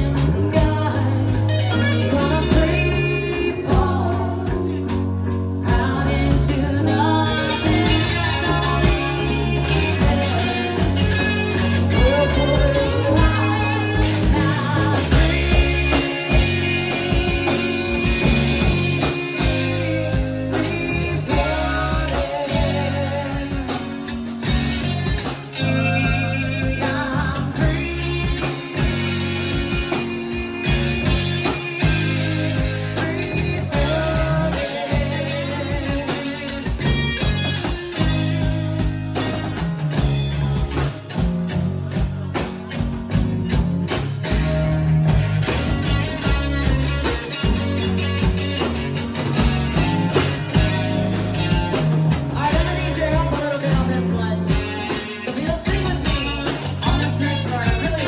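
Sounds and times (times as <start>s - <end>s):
bass notes: 0.0s - 58.0s
electric guitar: 0.0s - 58.0s
steady drum beat: 0.0s - 58.0s.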